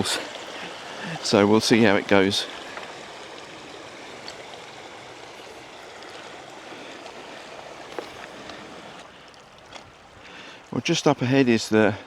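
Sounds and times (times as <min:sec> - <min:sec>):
river running over stones: 0:00.0 - 0:12.0.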